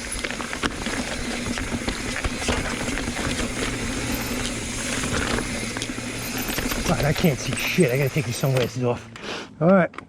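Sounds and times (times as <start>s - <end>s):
mountain bike clattering over rocks: 0.0s - 8.9s.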